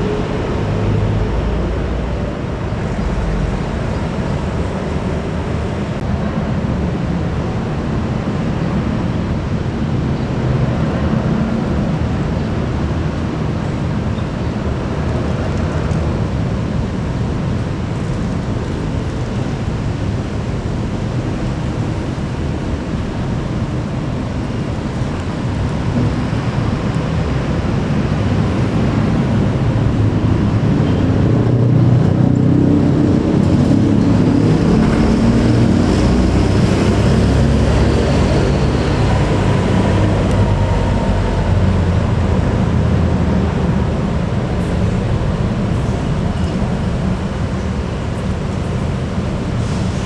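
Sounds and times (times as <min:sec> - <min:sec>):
bus engine rumbling: 0:00.0 - 0:50.0.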